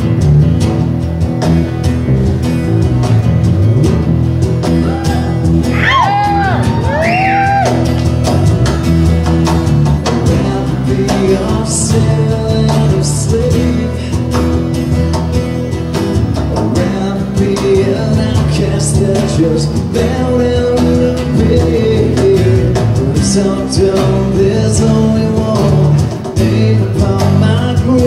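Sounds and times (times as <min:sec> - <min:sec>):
cajon beat: 0:00.0 - 0:28.0
electric guitar: 0:00.0 - 0:28.0
strummed acoustic guitars: 0:00.0 - 0:28.0.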